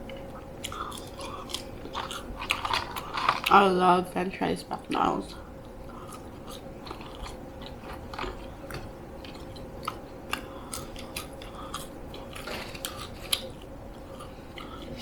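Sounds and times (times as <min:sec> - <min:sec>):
person chewing food: 0:00.0 - 0:03.5, 0:04.8 - 0:15.0
faint steady hum: 0:00.0 - 0:15.0.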